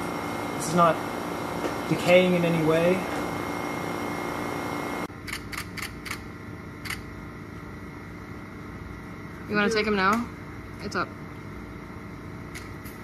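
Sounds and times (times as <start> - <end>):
steady room hum: 0.0 - 13.0.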